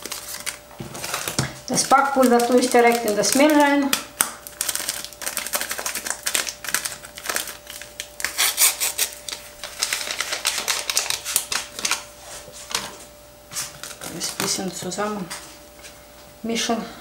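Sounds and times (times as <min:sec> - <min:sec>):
paper packet rustling and tearing: 0:00.0 - 0:12.9, 0:13.6 - 0:15.0.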